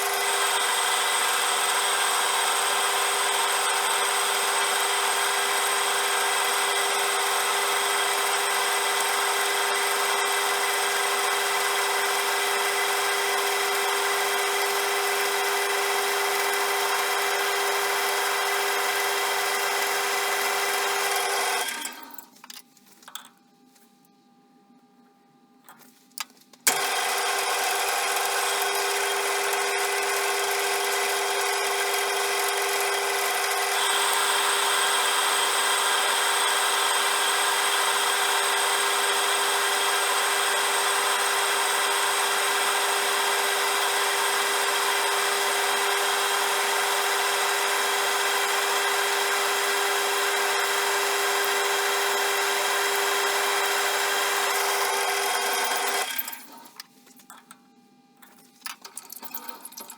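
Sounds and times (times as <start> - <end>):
lathe motor whining: 0.0 - 22.2, 26.7 - 56.8.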